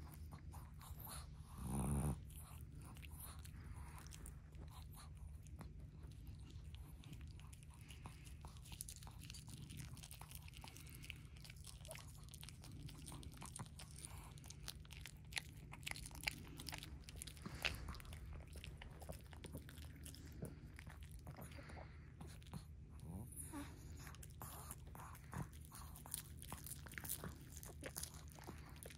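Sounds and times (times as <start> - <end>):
dog chewing crisp leaf: 1.8 - 22.6, 23.6 - 28.9.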